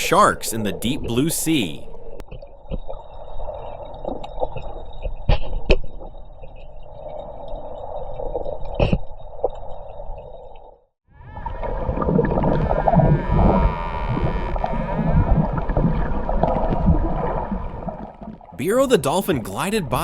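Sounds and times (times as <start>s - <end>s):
underwater bubbling and gurgling: 1.9s - 18.5s.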